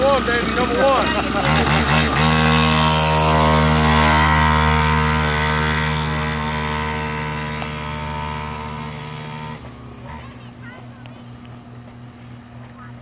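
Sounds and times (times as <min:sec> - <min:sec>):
dirt bike engine revving high: 0:00.0 - 0:11.0.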